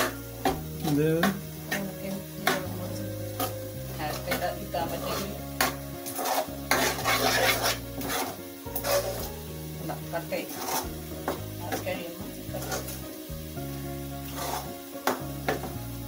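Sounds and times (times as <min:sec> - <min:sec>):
spoon scraping a pan: 0:00.0 - 0:13.3, 0:14.0 - 0:15.8
low sizzle: 0:00.0 - 0:16.0.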